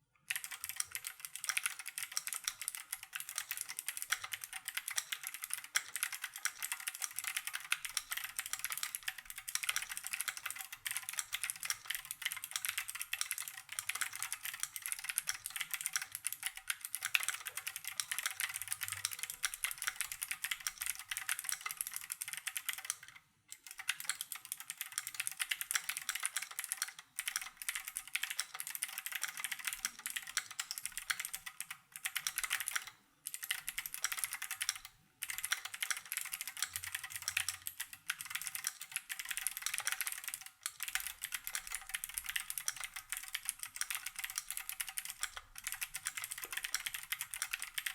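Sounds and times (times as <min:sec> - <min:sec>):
mechanical keyboard typing: 0:00.3 - 0:47.9.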